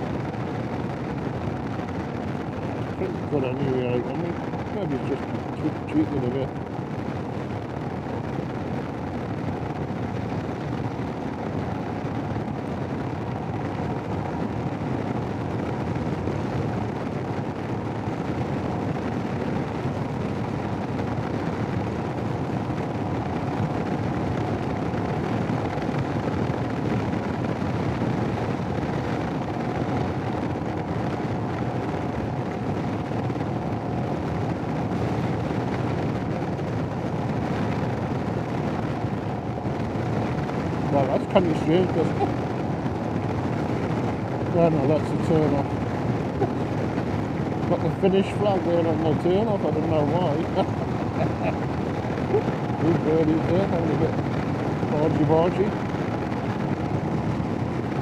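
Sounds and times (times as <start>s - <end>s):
wind buffeting a helmet microphone: 0.0s - 58.0s.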